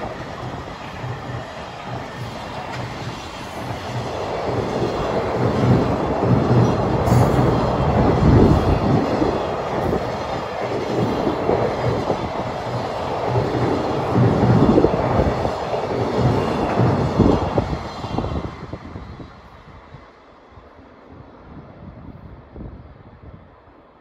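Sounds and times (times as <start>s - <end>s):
train wheels rumbling on rail: 0.0s - 23.8s.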